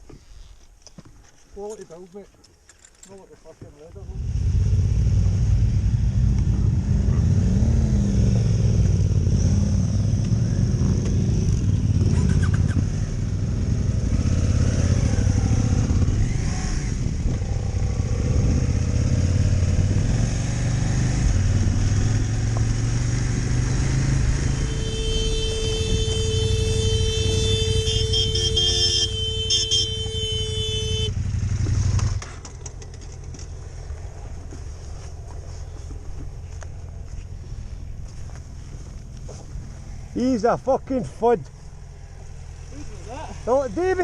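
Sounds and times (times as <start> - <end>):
motorcycle engine running: 4.0 - 39.8.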